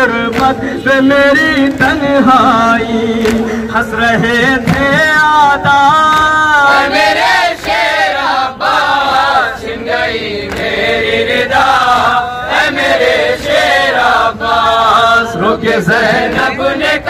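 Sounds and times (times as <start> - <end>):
male voices chanting a lament: 0.0 - 17.0.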